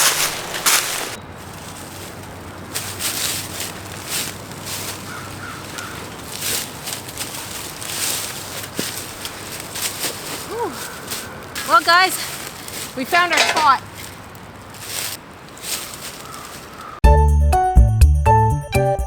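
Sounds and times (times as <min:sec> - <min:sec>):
distant highway traffic hum: 0:00.0 - 0:17.0
footsteps through dry leaves: 0:00.0 - 0:17.0.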